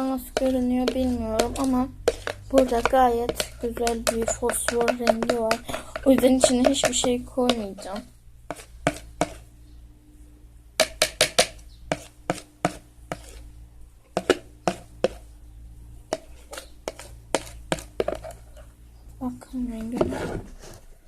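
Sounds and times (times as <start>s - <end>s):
spoon stirring against container: 0.0s - 9.6s, 10.8s - 15.4s, 16.0s - 18.8s.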